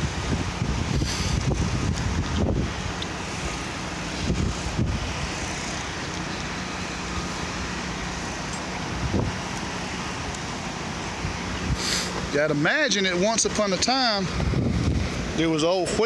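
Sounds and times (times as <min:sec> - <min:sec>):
wind gusting on microphone: 0:00.0 - 0:12.4, 0:13.3 - 0:16.0
outdoor rush of noise: 0:00.0 - 0:16.0.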